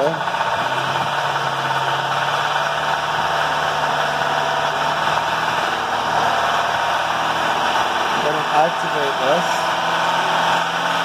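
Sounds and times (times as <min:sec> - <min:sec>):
car engine running at raised revs: 0:00.0 - 0:11.0
engine rattle: 0:00.0 - 0:11.0.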